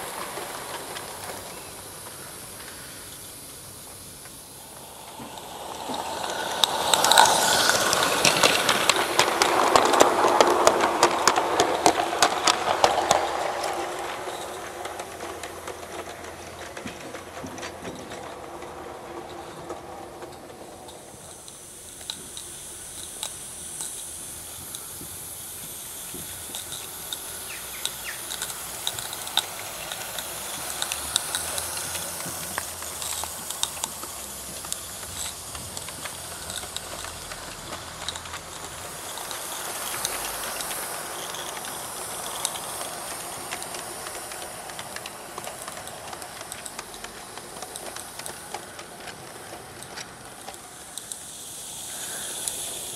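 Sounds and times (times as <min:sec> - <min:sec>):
steam hiss: 0:00.0 - 0:52.9
train wheels clicking over track: 0:00.0 - 0:52.9.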